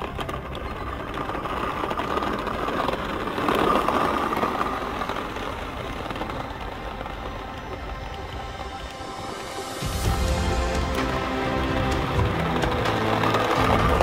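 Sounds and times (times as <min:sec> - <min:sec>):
toy electric motor whining: 0:00.0 - 0:14.0.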